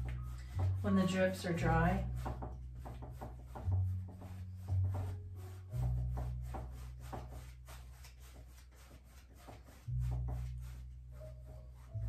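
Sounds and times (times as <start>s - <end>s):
paintbrush rubbing on canvas: 0.0s - 12.0s.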